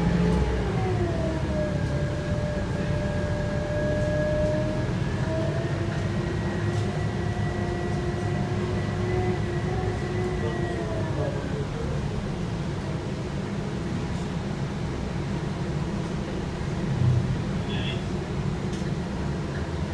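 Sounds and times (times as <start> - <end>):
bus engine and road rumble: 0.0 - 19.9.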